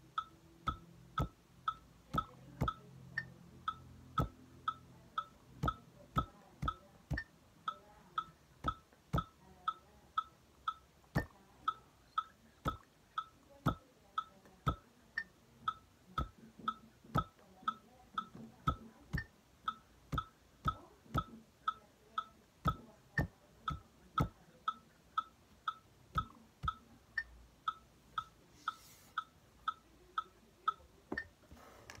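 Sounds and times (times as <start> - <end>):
metronome ticking: 0.0 - 31.4.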